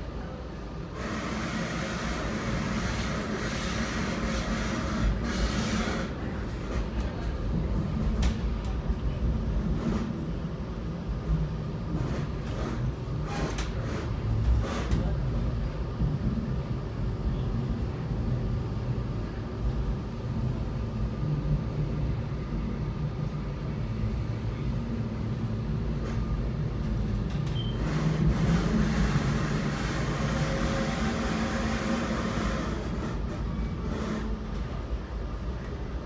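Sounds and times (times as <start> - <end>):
commuter train rumbling on track: 0.0 - 36.0.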